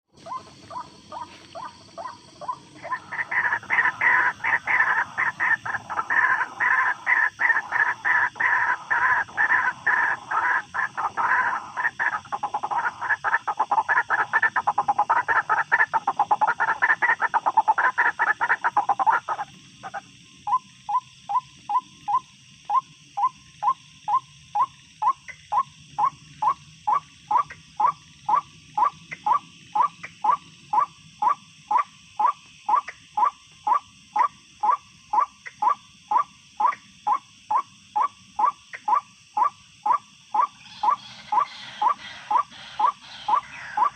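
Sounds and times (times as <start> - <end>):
waterhen croaking calls: 0.1 - 22.2, 25.1 - 43.9.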